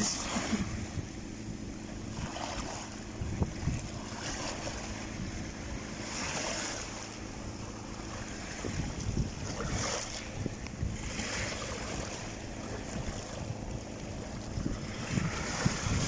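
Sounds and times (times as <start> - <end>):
sea waves washing ashore: 0.0 - 16.0
wind rumble on microphone: 0.0 - 16.0.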